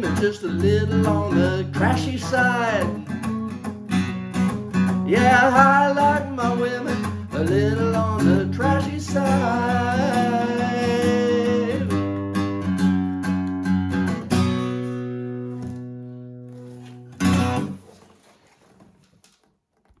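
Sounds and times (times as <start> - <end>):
guitar picked notes and chord: 0.0 - 17.8.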